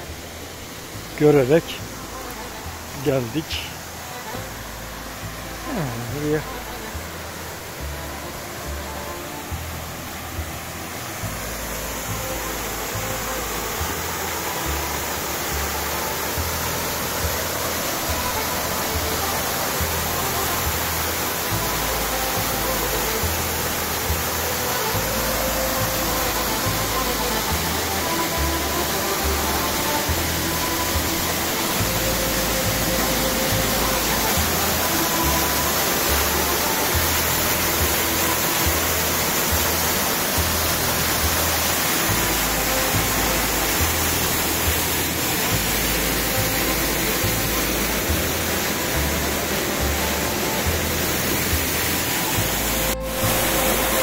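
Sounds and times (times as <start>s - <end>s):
soft background music: 0.0s - 54.0s
waterfall rushing: 0.0s - 54.0s.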